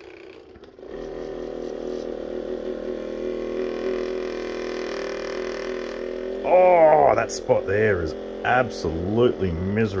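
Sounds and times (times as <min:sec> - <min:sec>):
massage gun motor running: 0:00.0 - 0:10.0.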